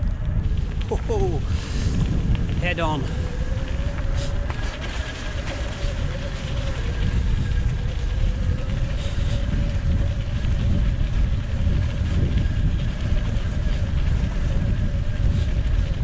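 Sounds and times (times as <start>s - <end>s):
electric motor whine: 0.0s - 16.0s
wind buffeting microphone: 0.0s - 16.0s.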